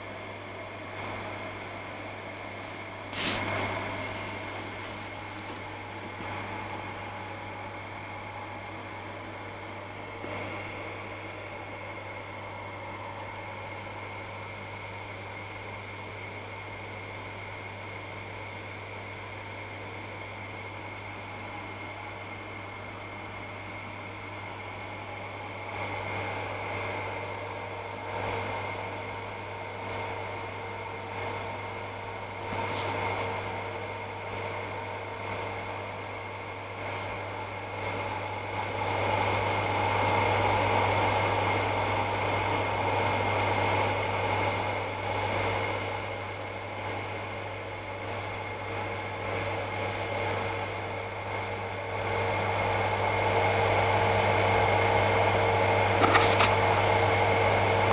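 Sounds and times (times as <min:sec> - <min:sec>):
cooling fans running: 0:00.0 - 0:57.9
low mains hum: 0:00.0 - 0:57.9
thin steady whines: 0:00.0 - 0:57.9.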